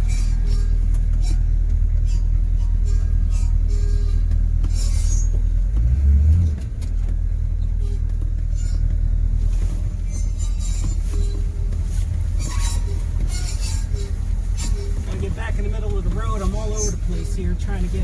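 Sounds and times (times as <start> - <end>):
diesel truck engine revving: 0.0 - 18.0.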